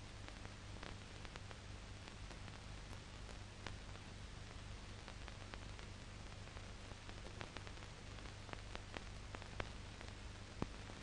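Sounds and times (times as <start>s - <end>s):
film soundtrack hiss and hum: 0.0s - 11.0s
clicks and crackles: 0.1s - 11.0s.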